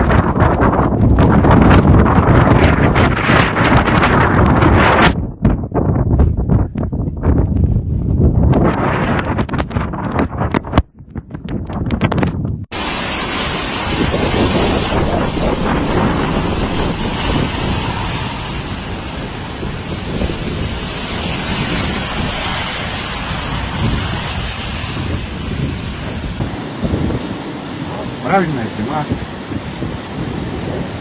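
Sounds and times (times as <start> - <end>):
blizzard wind buffeting microphone: 0.0 - 31.0.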